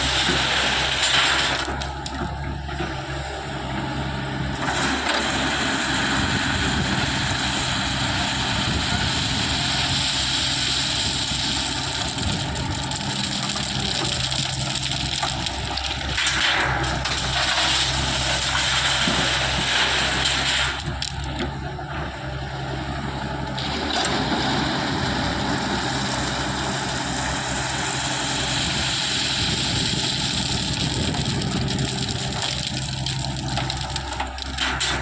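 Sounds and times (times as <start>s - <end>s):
grinding rumbling noise: 0.0s - 35.0s
heavy diesel engine running: 0.0s - 35.0s.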